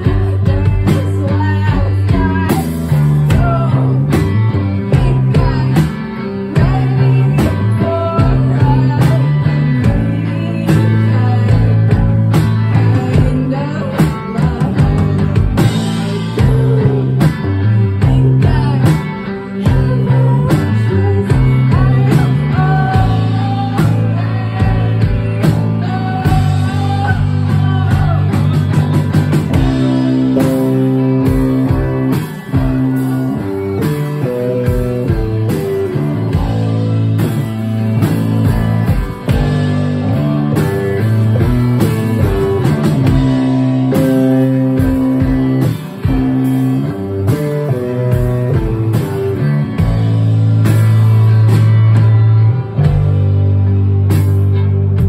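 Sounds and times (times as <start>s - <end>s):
drums: 0.0s - 55.0s
electric bass: 0.0s - 55.0s
electric guitar: 0.0s - 55.0s.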